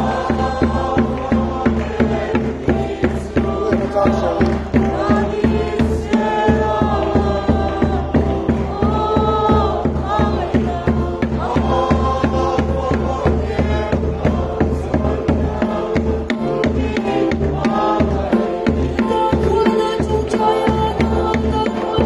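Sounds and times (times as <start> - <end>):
congregation singing a hymn: 0.0 - 22.0
loud steady drum beat: 0.0 - 22.0.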